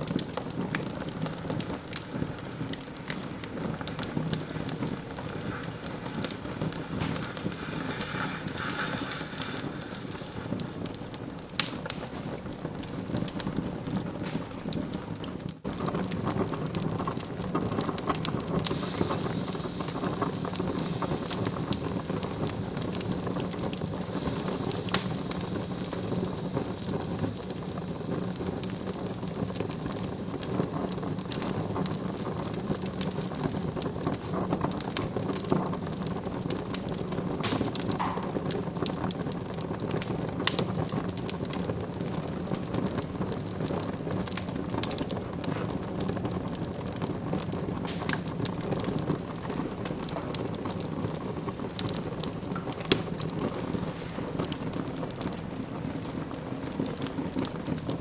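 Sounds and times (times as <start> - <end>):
hiss from burning wood: 0.0 - 58.0
wood fire crackling: 0.0 - 58.0.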